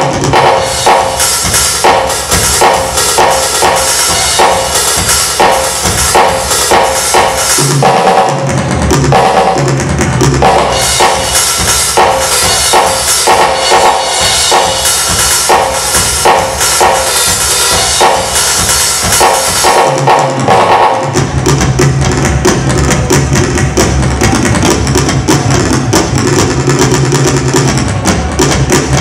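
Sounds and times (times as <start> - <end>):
electronic drum kit: 0.0 - 29.0
music through speakers: 0.0 - 29.0.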